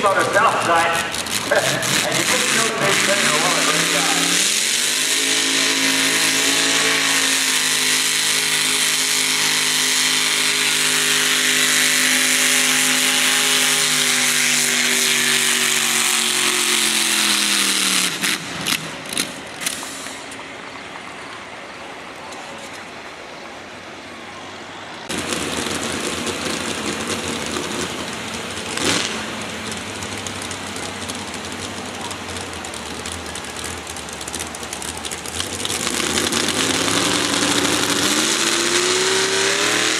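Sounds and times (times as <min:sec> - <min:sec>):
rough engine running: 0:00.0 - 0:39.9
tractor engine at full throttle: 0:00.0 - 0:39.9.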